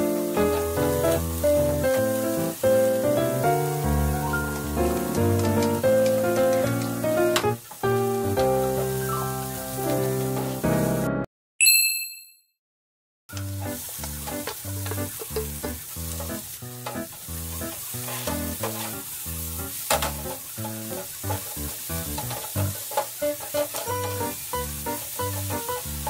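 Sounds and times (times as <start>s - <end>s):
onion sizzling in frying pan: 0.0s - 11.1s, 13.3s - 26.0s
wooden spatula stirring and scraping: 0.2s - 9.1s, 13.4s - 26.0s.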